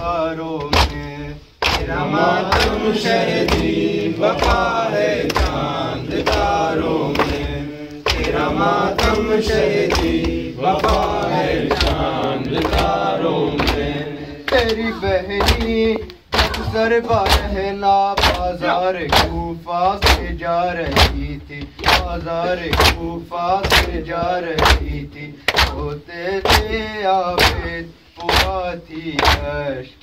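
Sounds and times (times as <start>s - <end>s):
men chanting a lament: 0.0s - 30.0s.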